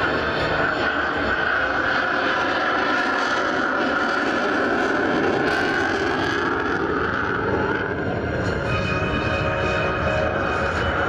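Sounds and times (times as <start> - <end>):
jet engine rushing: 0.0 - 11.0.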